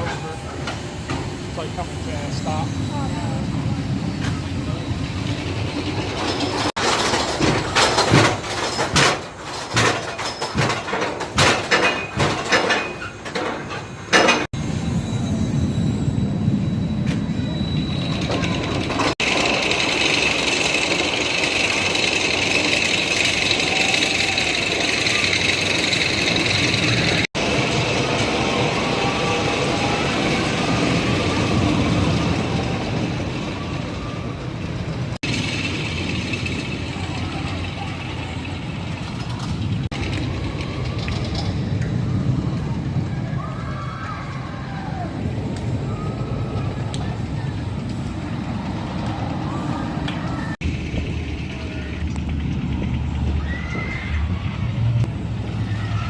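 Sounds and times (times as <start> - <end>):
roller coaster train rumbling on track: 0.0 - 56.0.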